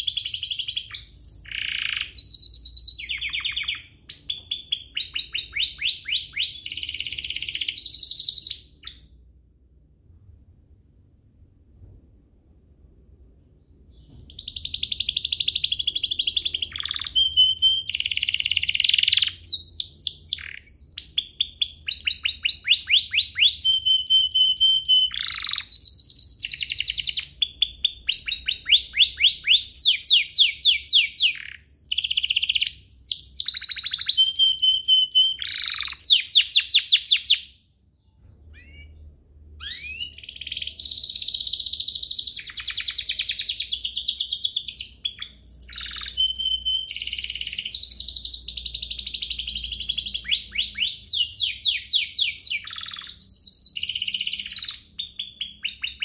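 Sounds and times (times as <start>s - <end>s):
canary singing trills: 0.0s - 9.2s, 13.8s - 56.0s.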